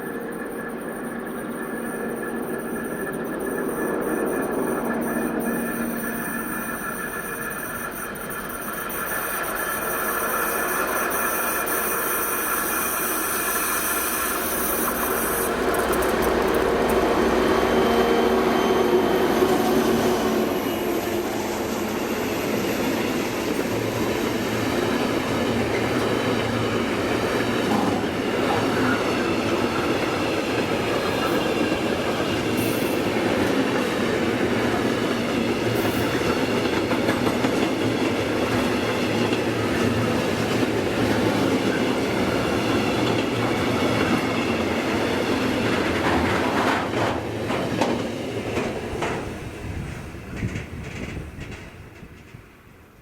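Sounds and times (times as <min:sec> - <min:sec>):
freight train wagons rolling: 0:00.0 - 0:52.7.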